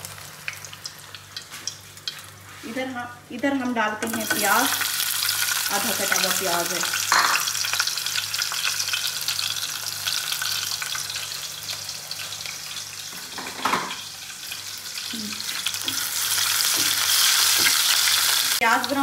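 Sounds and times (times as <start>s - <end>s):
potato chips frying in oil: 0.0s - 2.8s, 3.6s - 13.3s, 14.0s - 19.0s
onion sizzling in a pan: 0.0s - 19.0s.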